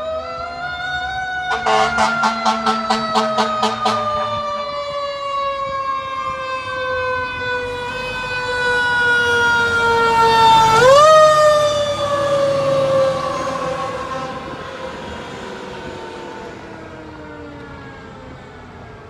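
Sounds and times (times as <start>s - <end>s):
fire engine siren: 0.0s - 19.0s.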